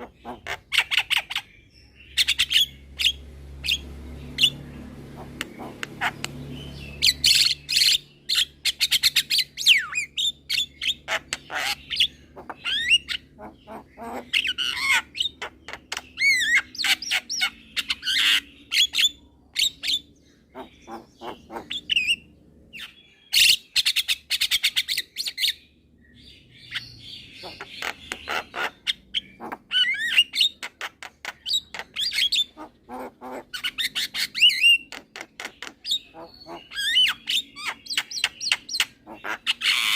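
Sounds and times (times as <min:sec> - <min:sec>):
myna bird singing: 0:00.0 - 0:39.9.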